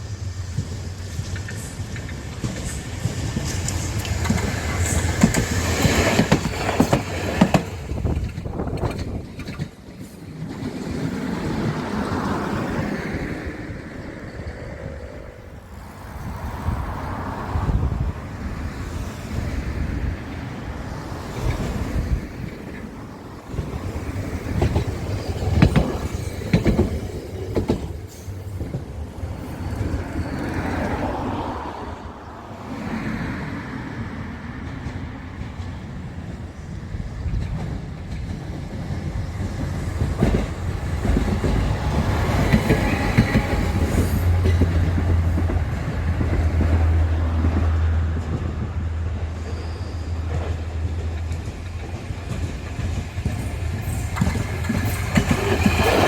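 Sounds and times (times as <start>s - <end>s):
rail vehicle running: 0.0s - 56.0s
wheels clicking over rail joints: 0.2s - 31.5s, 34.6s - 56.0s.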